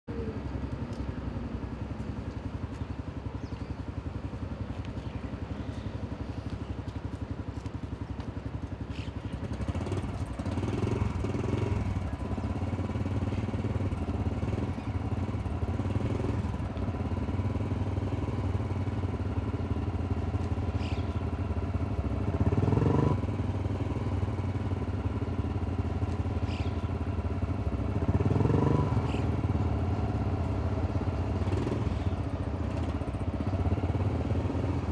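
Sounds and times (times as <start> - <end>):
vehicle engine running: 0.1 - 34.9.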